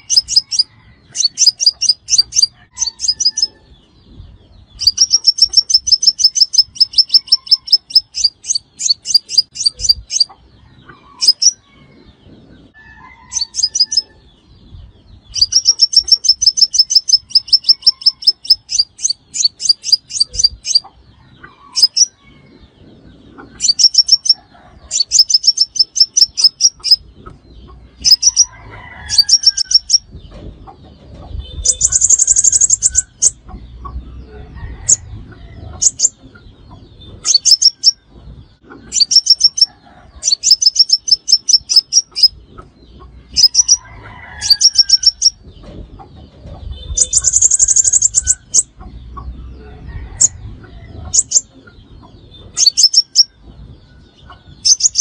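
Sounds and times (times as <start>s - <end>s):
bird chipping notes and trills: 0.0s - 43.8s, 44.4s - 49.6s, 50.2s - 55.0s.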